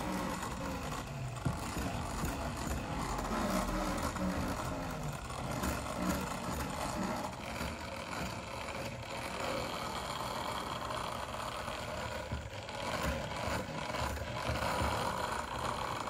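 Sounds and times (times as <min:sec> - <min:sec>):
clockwork mechanism running: 0:00.0 - 0:16.0.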